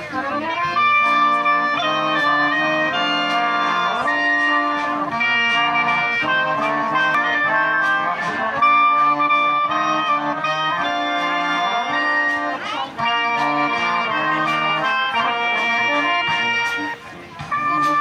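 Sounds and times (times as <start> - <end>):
brass band playing a waltz: 0.0 - 18.0.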